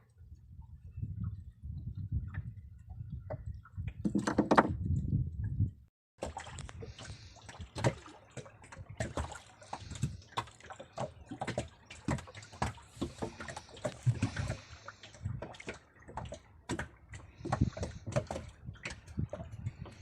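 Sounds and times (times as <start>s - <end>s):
water sloshing against hull: 0.0s - 5.6s, 6.2s - 20.0s
knocks and clatter on boat: 2.1s - 5.6s, 6.2s - 20.0s.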